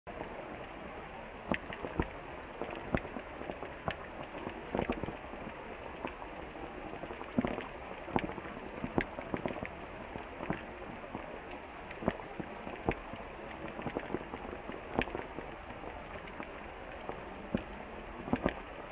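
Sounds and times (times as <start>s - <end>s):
steady rain hiss: 0.1s - 18.9s
raindrops tapping: 1.5s - 18.7s.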